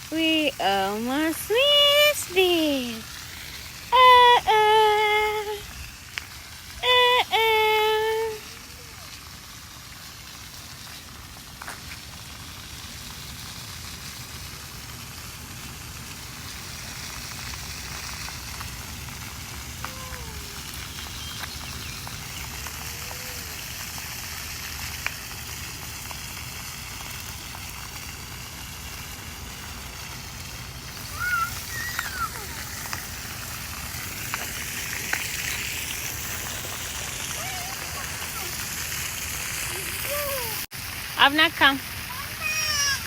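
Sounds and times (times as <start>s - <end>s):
running water hissing: 0.0s - 43.0s.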